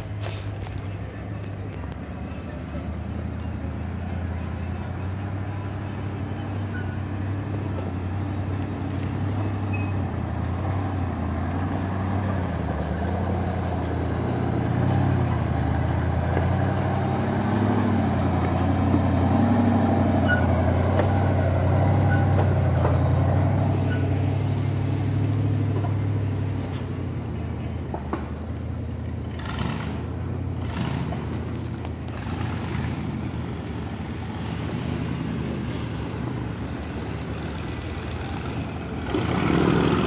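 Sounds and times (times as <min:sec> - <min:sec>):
buggy engine at low revs: 0:00.0 - 0:40.0.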